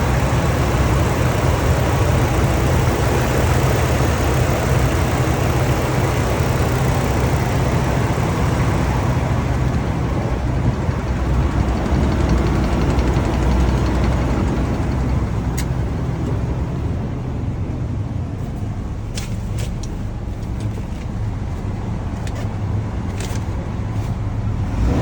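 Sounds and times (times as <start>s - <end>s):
truck engine low rumble: 0.0s - 25.0s.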